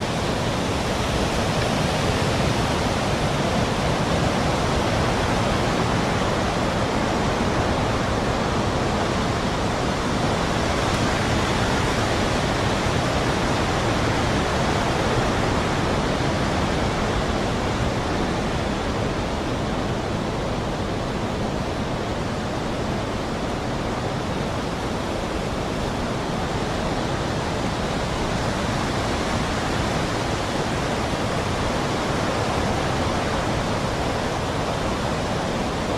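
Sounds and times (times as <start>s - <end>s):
steady rushing noise: 0.0s - 35.9s.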